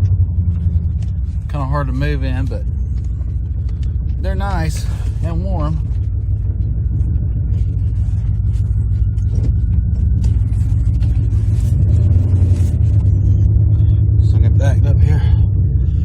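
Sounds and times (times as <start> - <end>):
farm vehicle engine rumbling: 0.0 - 16.0.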